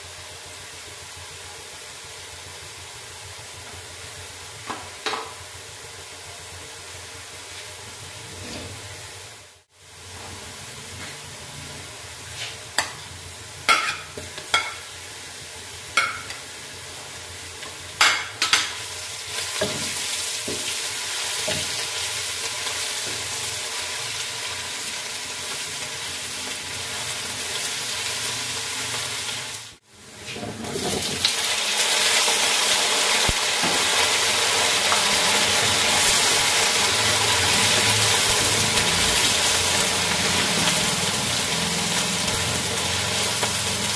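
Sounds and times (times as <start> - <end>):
onions sizzling in oil: 0.0 - 43.9
potatoes frying in oil: 0.0 - 43.9.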